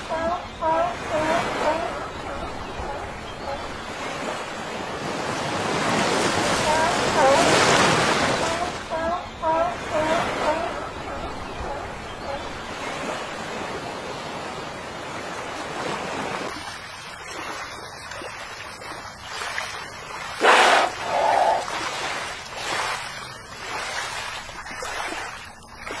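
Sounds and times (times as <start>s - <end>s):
sea water sloshing and lapping: 0.0s - 26.0s.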